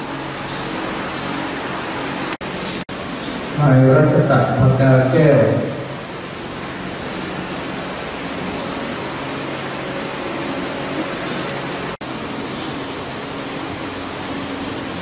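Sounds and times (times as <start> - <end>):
steady hiss: 0.6 - 15.0.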